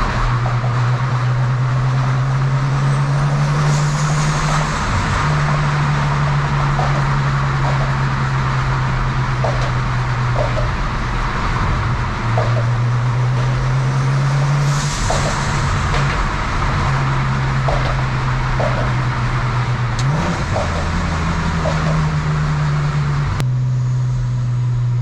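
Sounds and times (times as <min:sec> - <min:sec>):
car exhaust drone: 0:00.0 - 0:25.0.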